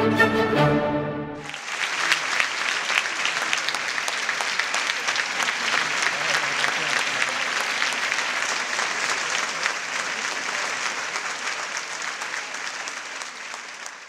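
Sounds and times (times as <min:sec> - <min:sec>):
audience applauding: 0:01.4 - 0:14.0.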